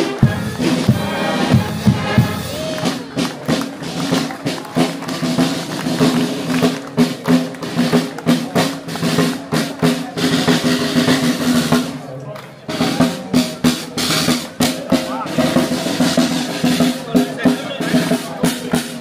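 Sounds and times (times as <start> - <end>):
drums beating march rhythm: 0.0 - 19.0
marching band melody: 0.0 - 19.0.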